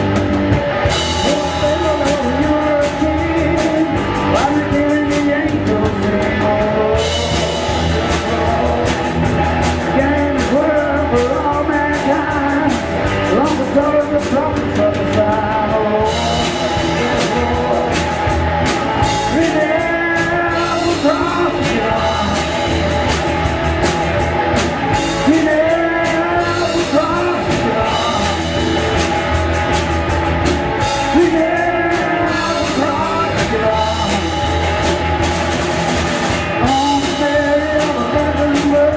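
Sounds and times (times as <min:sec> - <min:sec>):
rock music with singer: 0:00.0 - 0:38.9.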